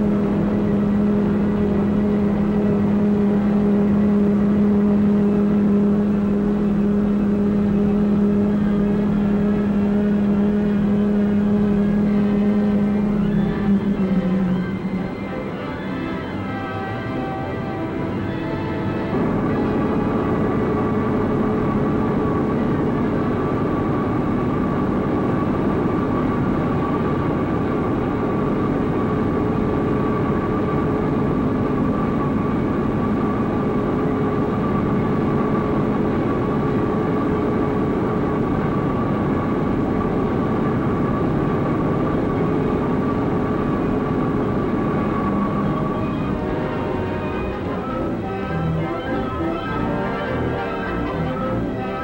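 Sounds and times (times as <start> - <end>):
heavy shop machinery drone: 0.0 - 52.0.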